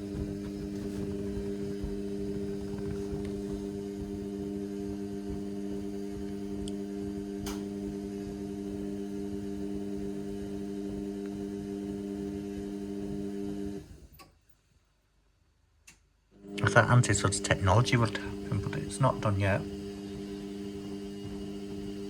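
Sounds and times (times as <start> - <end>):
washing machine humming: 0.0 - 14.2, 16.3 - 22.0.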